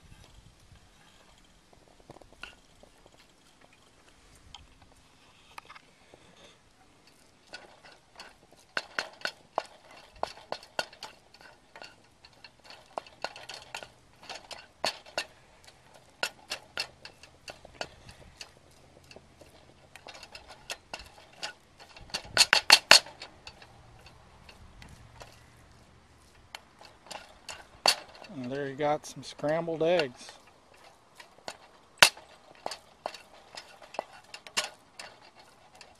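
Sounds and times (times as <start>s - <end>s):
utensil scraping a metal pot: 5.0s - 35.9s.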